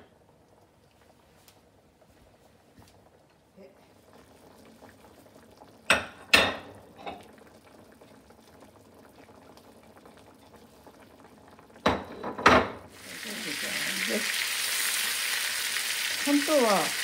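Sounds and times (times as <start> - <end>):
sauce bubbling in a frying pan: 0.0 - 17.0.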